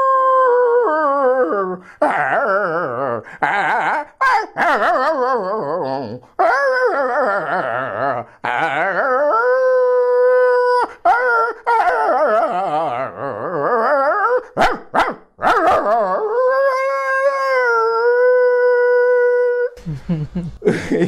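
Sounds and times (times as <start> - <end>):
man mimicking dog howling: 0.0 - 14.7, 15.4 - 19.8.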